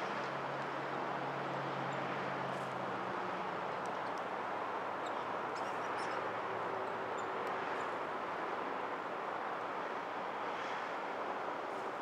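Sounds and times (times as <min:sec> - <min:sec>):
distant traffic roar: 0:00.0 - 0:12.0.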